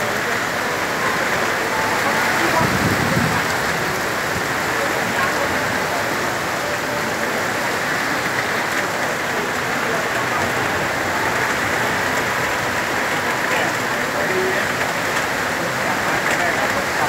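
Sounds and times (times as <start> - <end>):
heavy rain pouring: 0.0 - 17.0
wind: 0.0 - 17.0.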